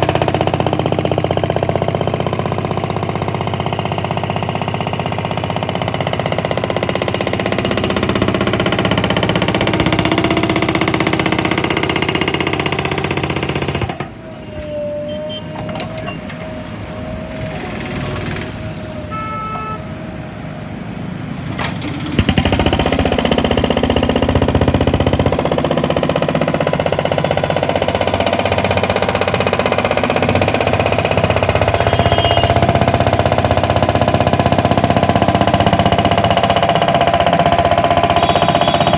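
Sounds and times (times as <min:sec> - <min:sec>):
diesel engine running: 0:00.0 - 0:38.9
hydraulic breaker pounding road: 0:00.0 - 0:38.9.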